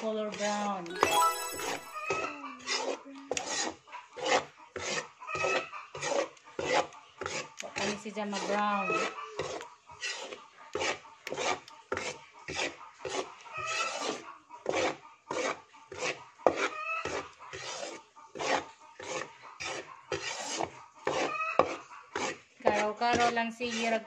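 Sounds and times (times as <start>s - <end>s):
metal spatula scraping flour in pan: 0.0s - 0.8s, 2.6s - 24.0s.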